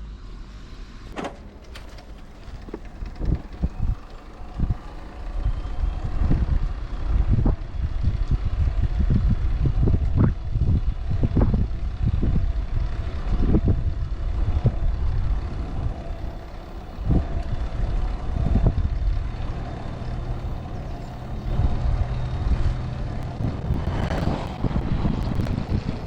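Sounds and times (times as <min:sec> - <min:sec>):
wind buffeting microphone: 0:01.2 - 0:26.0.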